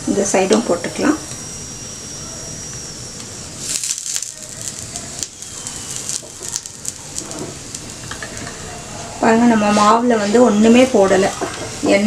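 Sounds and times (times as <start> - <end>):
flatbread sizzling on griddle: 1.5 - 11.9.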